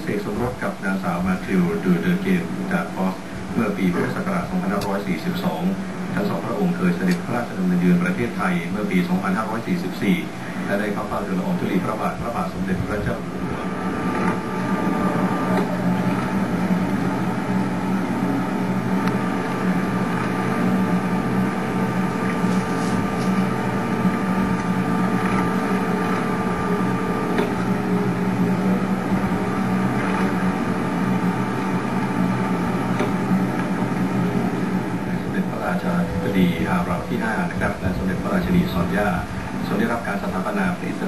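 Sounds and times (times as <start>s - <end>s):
constant hiss: 0.0s - 41.0s
steady hum with held tones: 0.0s - 41.0s.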